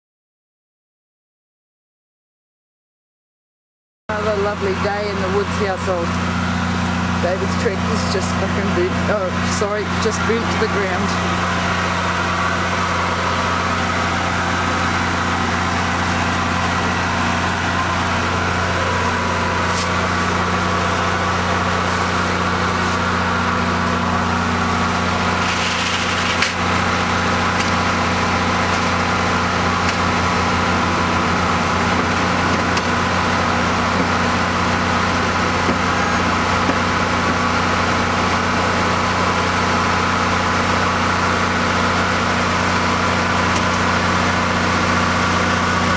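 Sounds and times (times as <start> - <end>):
engine idling: 4.1 - 45.9.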